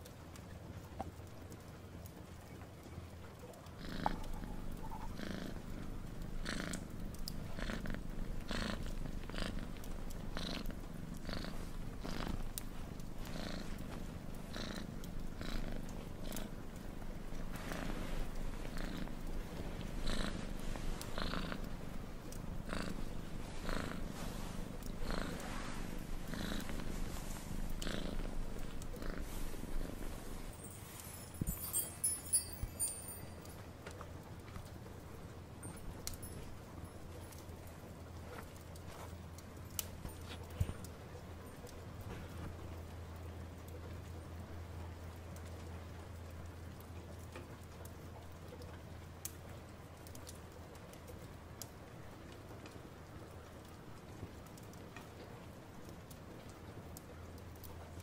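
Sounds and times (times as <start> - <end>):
cat purring: 0.4 - 50.9.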